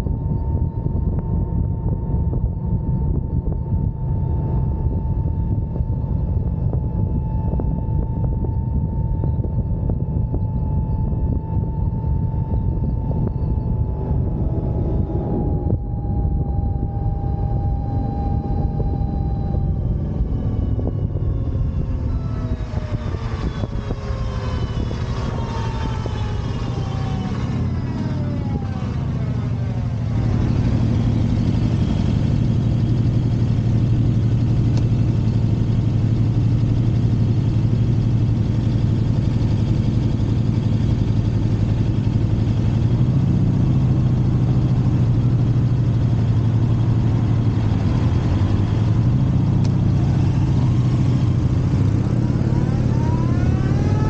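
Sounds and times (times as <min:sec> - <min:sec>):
electric motor whine: 0:00.0 - 0:54.0
wind and road noise: 0:00.0 - 0:54.0.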